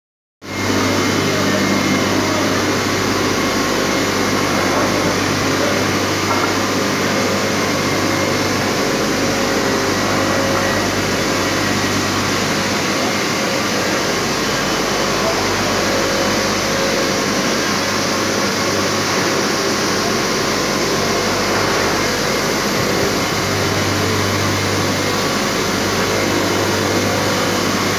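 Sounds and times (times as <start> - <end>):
shot blasting machine droning: 0.4 - 27.9.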